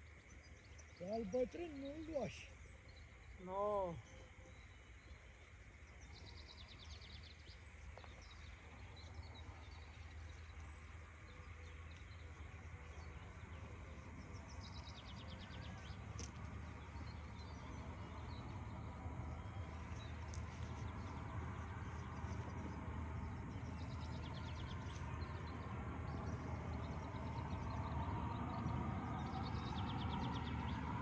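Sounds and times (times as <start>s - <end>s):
birds singing: 0.0s - 31.0s
steady low rumble: 5.1s - 31.0s.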